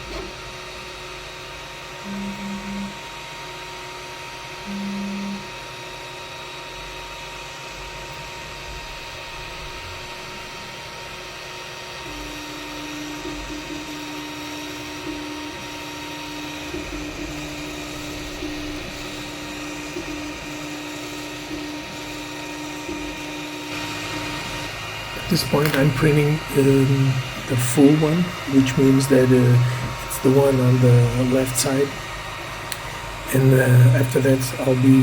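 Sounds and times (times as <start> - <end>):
cooling fans humming: 0.0 - 35.0
stepper motor whine: 0.0 - 35.0.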